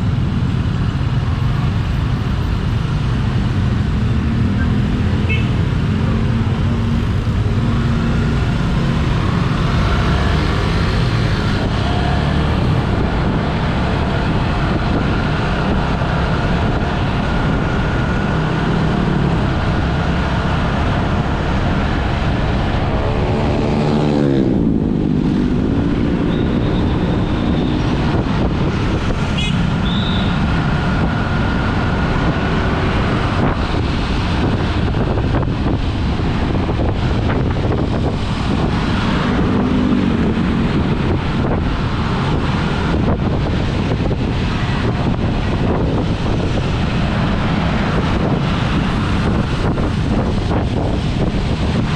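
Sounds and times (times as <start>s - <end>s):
road traffic: 0.0s - 51.9s
vehicle engine: 0.0s - 51.9s
wind rumble: 0.0s - 51.9s.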